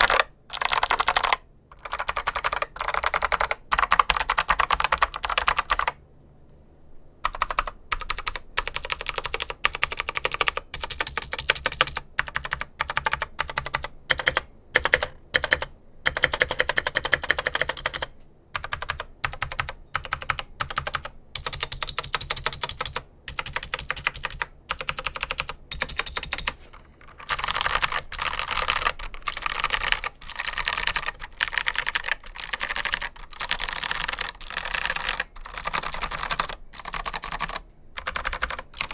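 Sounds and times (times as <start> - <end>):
typing on mechanical keyboard: 0.0 - 6.0, 7.2 - 38.9.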